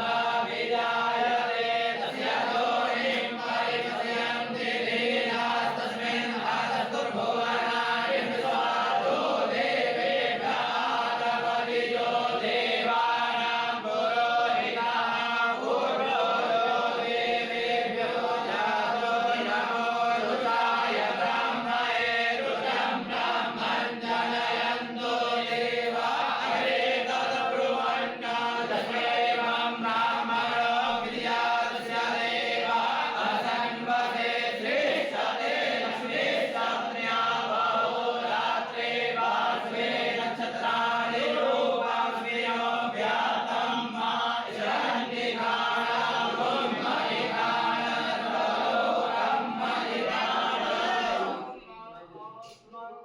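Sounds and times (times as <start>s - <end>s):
group chanting in unison: 0.0s - 51.7s.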